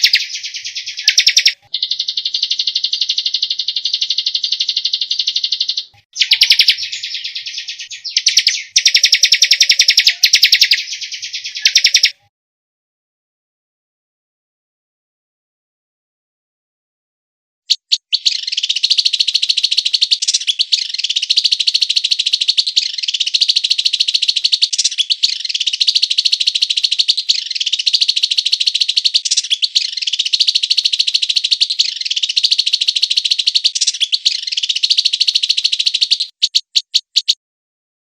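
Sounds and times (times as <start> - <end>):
bird chips: 0.0 - 12.2, 17.7 - 37.4
songbird chattering trill: 0.0 - 12.2, 17.7 - 37.4.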